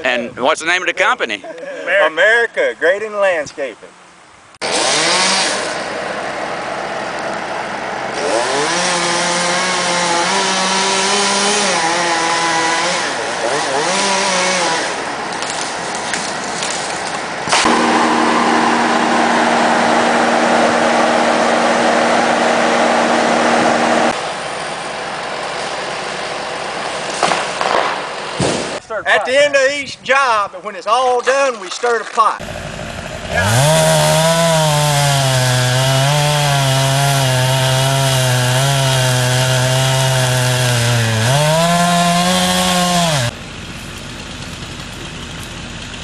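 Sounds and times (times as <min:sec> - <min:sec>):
gas engines revving: 0:04.6 - 0:28.8, 0:32.4 - 0:46.0.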